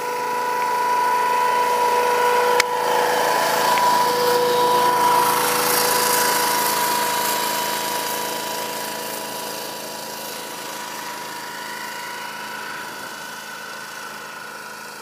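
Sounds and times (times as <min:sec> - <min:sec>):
small tractor engine running: 0:00.0 - 0:15.0.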